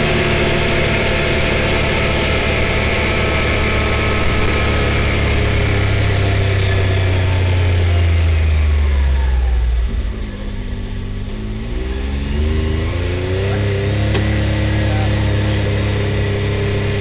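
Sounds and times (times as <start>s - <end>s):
turbo engine accelerating: 0.0s - 17.0s.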